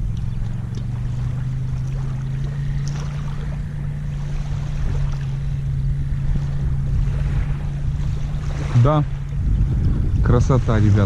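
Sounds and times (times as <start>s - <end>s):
engine droning: 0.0s - 11.0s
low wind rumble: 0.0s - 11.0s.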